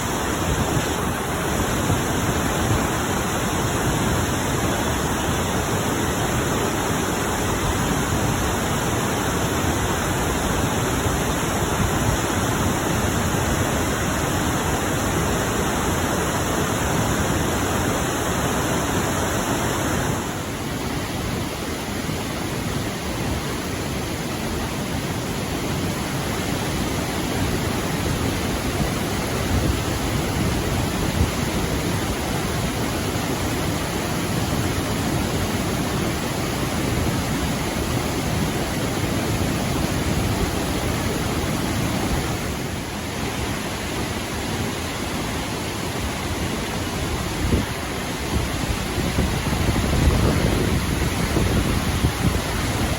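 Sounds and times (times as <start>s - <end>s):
waterfall roaring: 0.0s - 52.9s.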